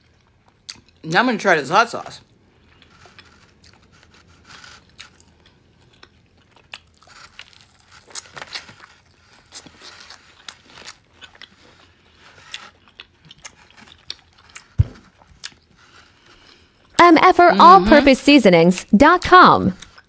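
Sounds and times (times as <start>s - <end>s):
crunchy chewing: 0.0s - 1.1s, 2.2s - 17.0s, 19.8s - 20.0s.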